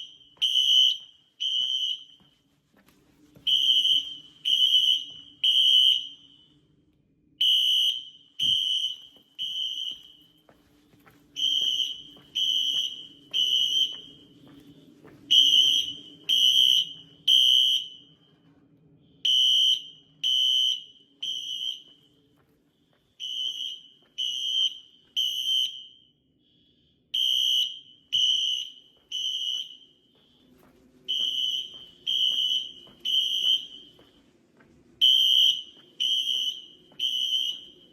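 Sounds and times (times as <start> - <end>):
fire alarm horn blasts: 0.0 - 2.5, 3.4 - 6.8, 7.4 - 10.5, 11.3 - 18.4, 19.2 - 34.3, 35.0 - 37.9.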